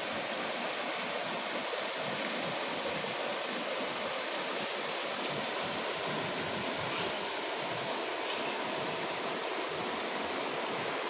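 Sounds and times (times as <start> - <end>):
stream water rushing over rocks: 0.0 - 11.0.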